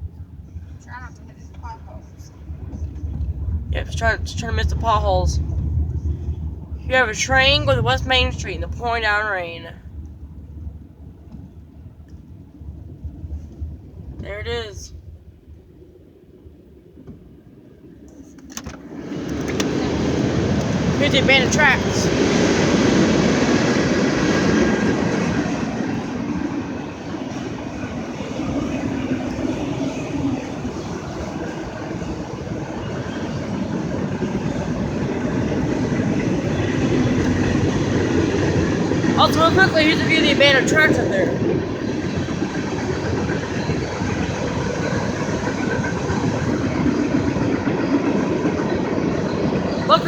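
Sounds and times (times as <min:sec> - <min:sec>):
car road noise: 0:00.0 - 0:11.6, 0:18.2 - 0:50.0
train rolling past: 0:00.0 - 0:16.3, 0:18.8 - 0:50.0.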